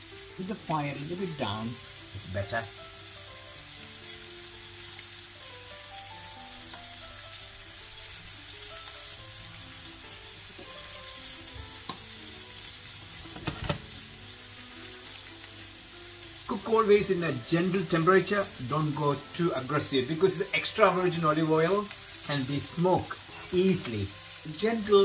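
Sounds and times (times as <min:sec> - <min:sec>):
fish sizzling in a pan: 0:00.0 - 0:25.0.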